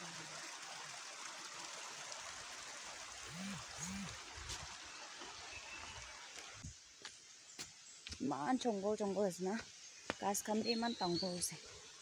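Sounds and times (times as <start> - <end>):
small stream flowing: 0.0 - 12.0.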